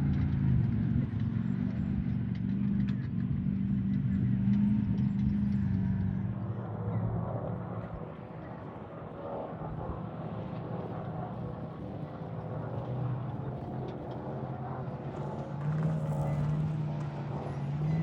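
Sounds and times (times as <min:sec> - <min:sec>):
engine running low hum: 0:00.0 - 0:18.0.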